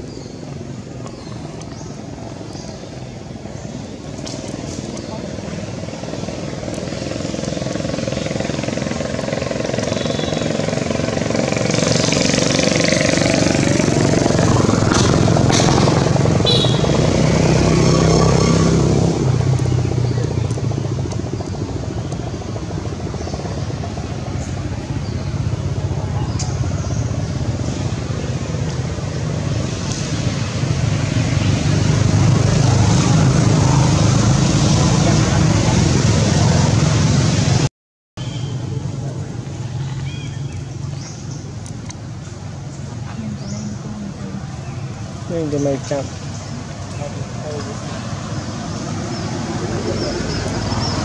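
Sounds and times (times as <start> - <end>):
vehicle engine running: 0.4 - 51.0.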